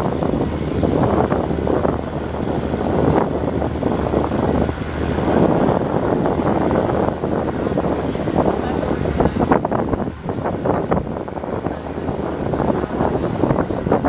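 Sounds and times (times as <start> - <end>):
boat engine drone: 0.0 - 14.0
choppy river waves rushing: 0.0 - 14.0
wind buffeting microphone: 0.0 - 14.0.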